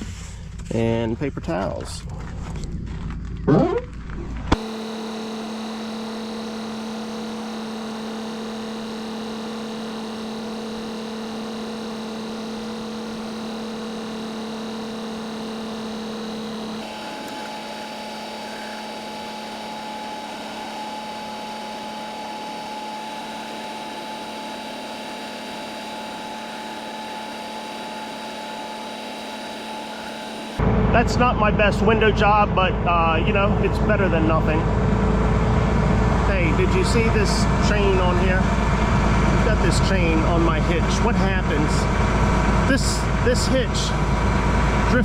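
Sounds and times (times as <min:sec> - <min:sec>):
tractor engine humming: 0:00.0 - 0:23.9, 0:28.2 - 0:45.0.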